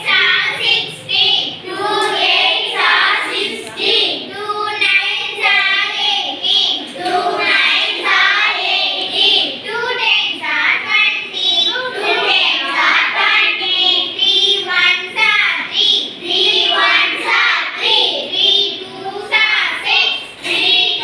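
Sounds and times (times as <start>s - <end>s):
children chanting in sing-song: 0.0s - 21.0s.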